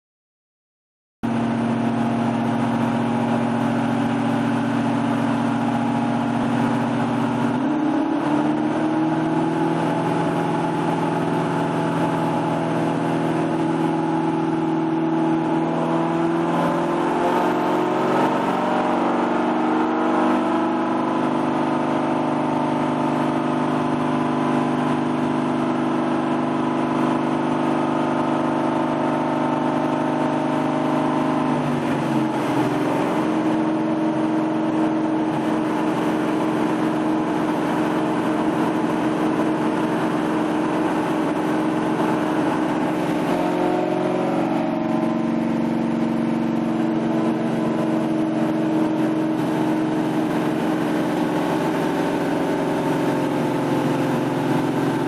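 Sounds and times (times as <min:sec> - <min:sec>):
car engine running under load: 0:01.2 - 0:55.0.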